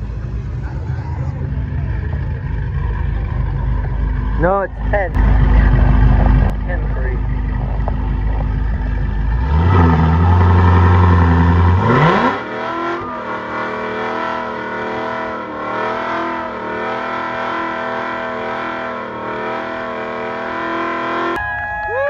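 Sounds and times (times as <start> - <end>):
car engine revving: 0.0 - 21.4.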